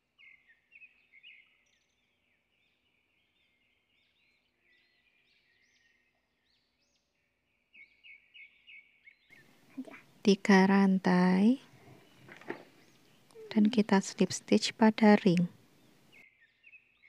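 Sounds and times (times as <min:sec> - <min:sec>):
faint high bird chirps: 0:00.0 - 0:17.0.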